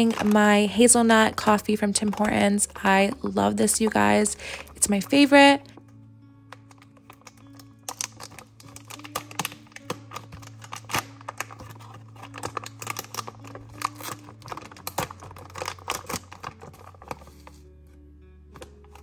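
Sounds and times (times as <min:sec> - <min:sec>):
coffee bag wrapper crackling: 0:00.0 - 0:05.9, 0:06.5 - 0:17.7, 0:18.6 - 0:19.0.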